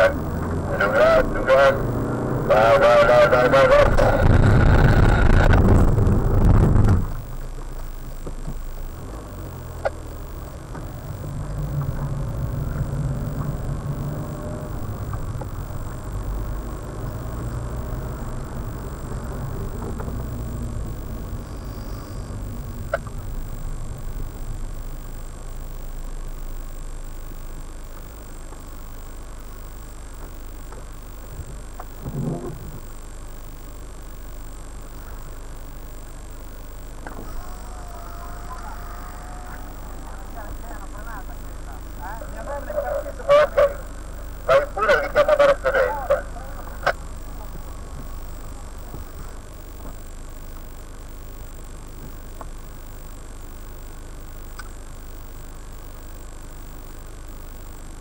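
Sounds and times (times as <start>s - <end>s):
car engine running: 0.0s - 58.0s
road rumble: 0.0s - 58.0s.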